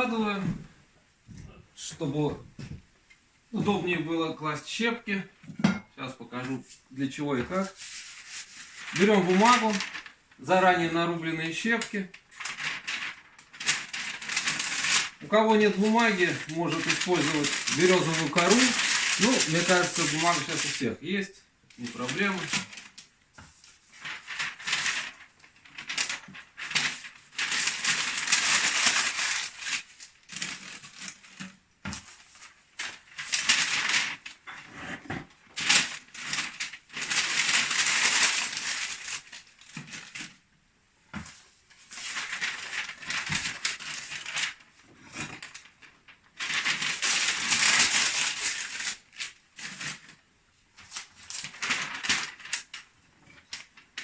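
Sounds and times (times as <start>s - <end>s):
paper being crumpled: 7.6s - 21.0s, 21.8s - 34.5s, 35.5s - 40.4s, 41.2s - 50.2s, 50.8s - 54.0s.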